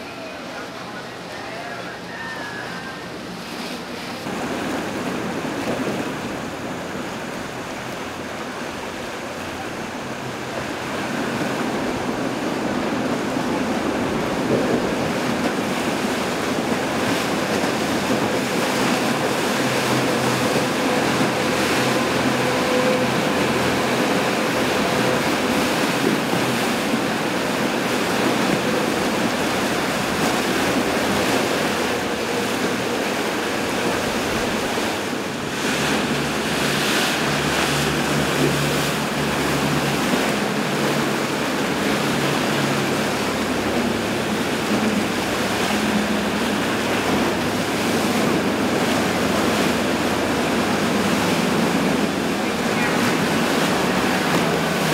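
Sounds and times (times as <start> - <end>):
churning water rushing: 0.0 - 54.9
motorboat outboard engines: 0.0 - 54.9.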